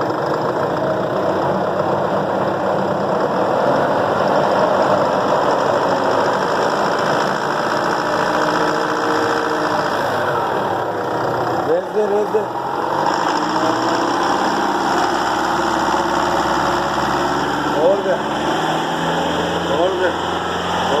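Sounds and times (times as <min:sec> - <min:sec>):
engine knocking: 0:00.0 - 0:21.0
pickup engine running: 0:00.0 - 0:21.0.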